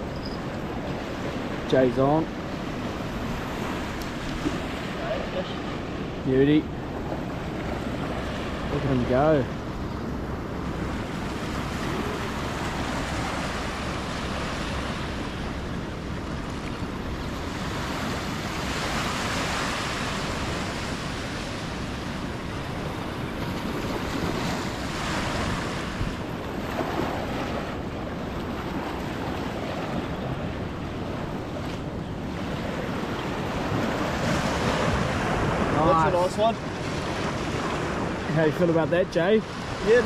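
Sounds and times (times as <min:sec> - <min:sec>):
small waves washing onto shore: 0:00.0 - 0:40.0.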